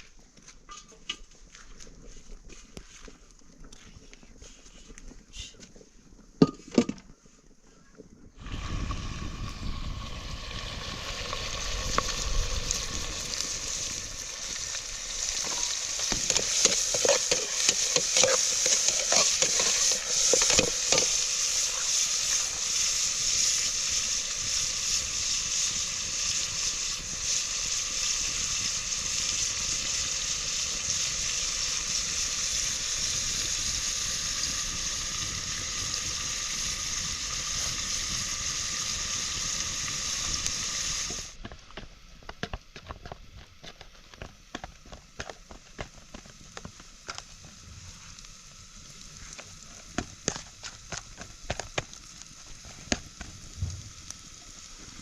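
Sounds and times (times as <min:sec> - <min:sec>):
food sizzling in a pan: 0:08.4 - 0:41.4, 0:42.2 - 0:55.0.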